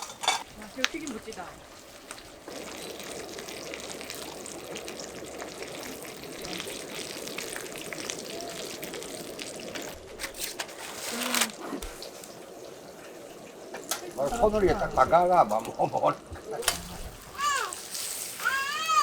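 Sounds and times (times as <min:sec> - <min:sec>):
shrimp frying in hot oil: 0:00.0 - 0:19.0.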